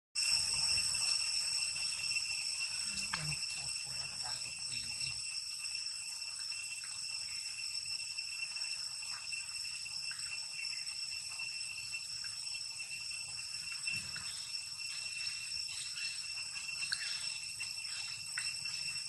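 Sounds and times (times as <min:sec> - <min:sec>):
high-pitched insect chorus: 0:00.2 - 0:19.0.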